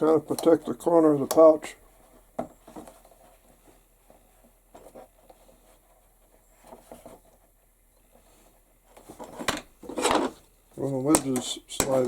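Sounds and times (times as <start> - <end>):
soft taps and rustles of leather: 0.0 - 12.0.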